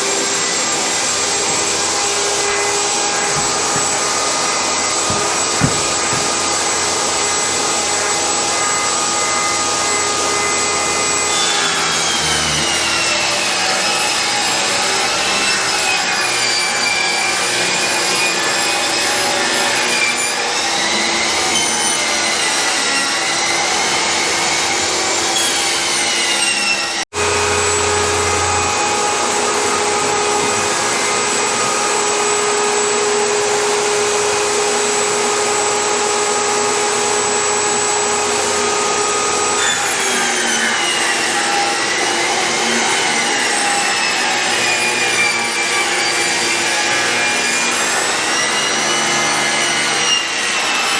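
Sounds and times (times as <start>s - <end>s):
power tool whining on wood: 0.0s - 50.9s.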